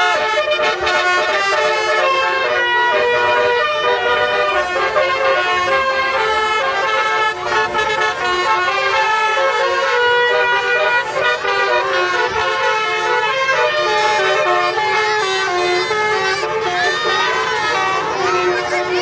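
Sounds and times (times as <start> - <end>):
multi-tone musical vehicle horns: 0.0 - 19.0.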